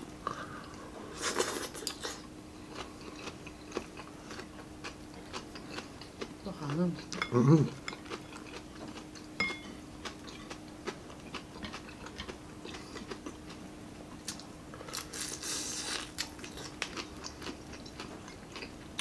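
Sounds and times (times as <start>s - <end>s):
faint steady hum: 0.0s - 19.0s
chewing crispy food: 0.3s - 19.0s.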